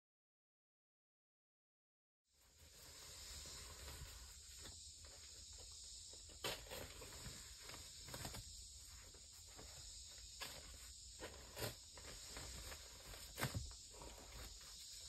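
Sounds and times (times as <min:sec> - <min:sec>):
steady high hiss: 0:02.3 - 0:15.0.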